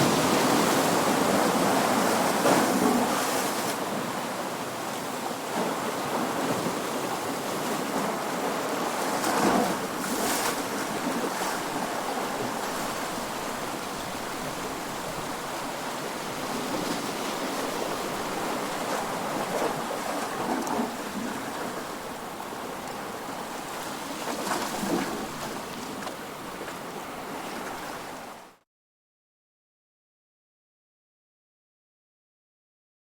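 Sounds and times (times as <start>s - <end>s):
waves breaking on shore: 0.0s - 28.6s.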